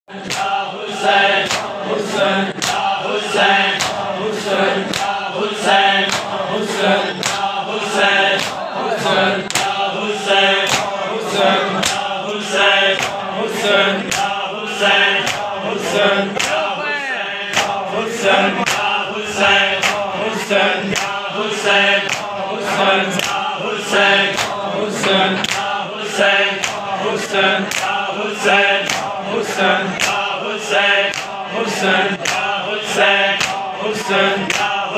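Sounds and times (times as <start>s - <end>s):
men chanting a lament: 0.1s - 34.9s
rhythmic chest slaps: 0.1s - 34.9s.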